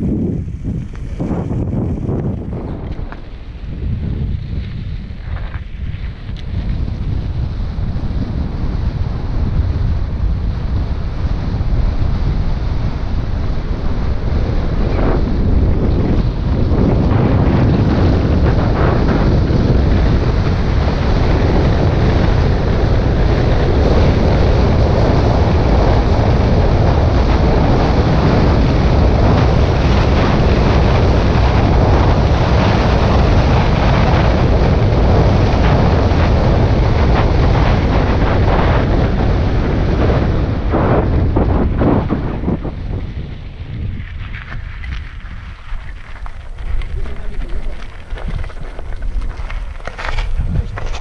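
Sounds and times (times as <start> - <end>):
bike tyres on loose ground: 0.0 - 51.0
wind rushing over microphone: 0.0 - 51.0.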